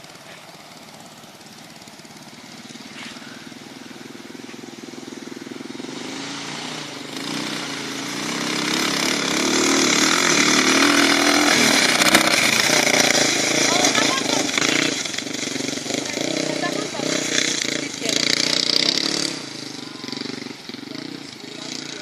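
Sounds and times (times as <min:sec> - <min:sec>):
off-road buggy engine: 0:00.0 - 0:22.0.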